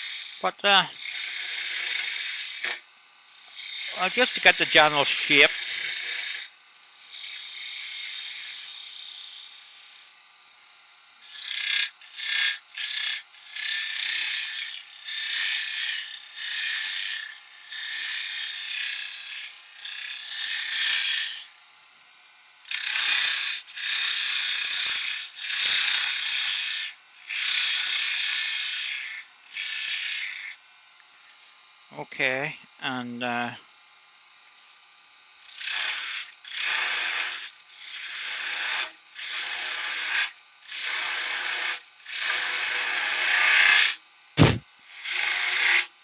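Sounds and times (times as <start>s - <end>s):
lathe running: 0.0s - 10.1s, 11.2s - 21.5s, 22.7s - 30.6s, 35.4s - 45.8s
tool scraping wood on lathe: 0.0s - 10.1s, 11.2s - 21.5s, 22.7s - 30.6s, 35.4s - 45.9s.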